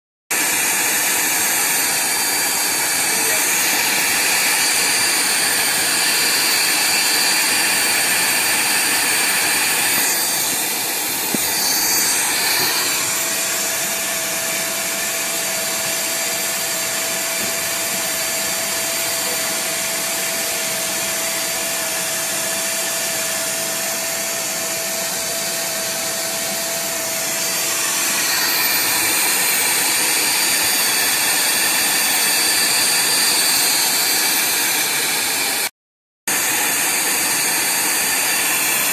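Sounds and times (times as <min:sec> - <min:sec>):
vacuum cleaner whining: 0:00.3 - 0:35.7, 0:36.3 - 0:38.9.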